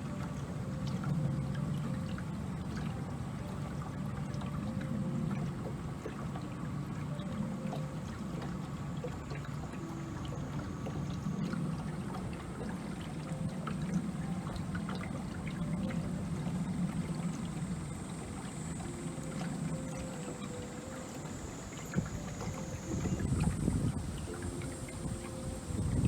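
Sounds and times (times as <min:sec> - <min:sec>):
boat motor running: 0:00.0 - 0:26.0
water splashing along hull: 0:00.0 - 0:26.0.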